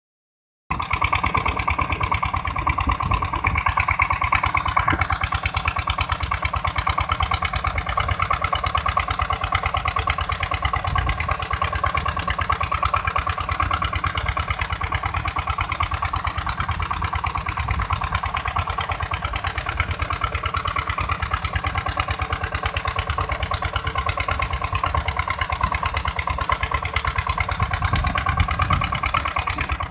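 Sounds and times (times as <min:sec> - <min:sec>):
engine running steadily: 0:00.7 - 0:29.9.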